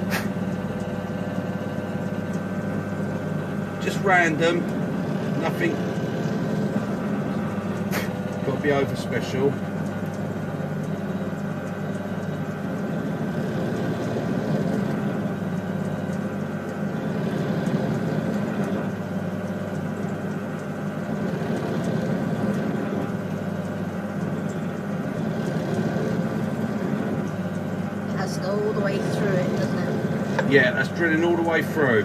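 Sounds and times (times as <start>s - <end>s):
drill press drilling wood: 0.0s - 32.0s.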